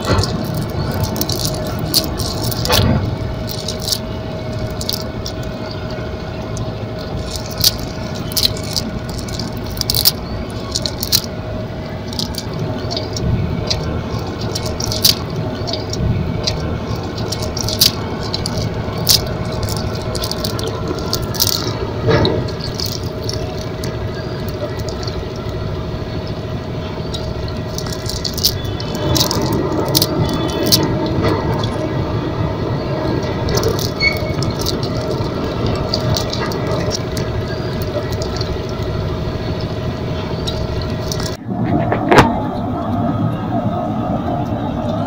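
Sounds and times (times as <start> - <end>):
chain sinkers clinking and rattling: 0.0 - 41.4
steady background hum: 0.0 - 45.0.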